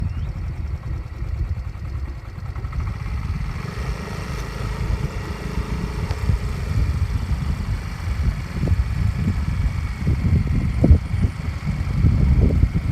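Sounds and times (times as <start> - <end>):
car engine and road noise: 0.0 - 12.9
wind buffeting microphone: 0.0 - 12.9.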